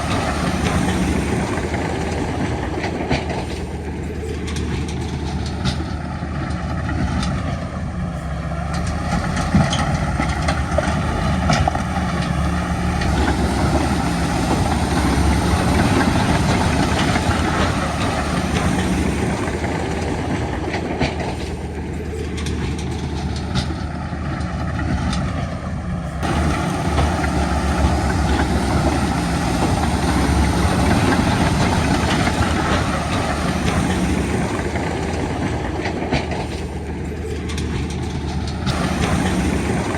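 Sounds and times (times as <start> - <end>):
crawler tracks clanking: 0.0 - 39.9
diesel engine running: 0.0 - 39.9.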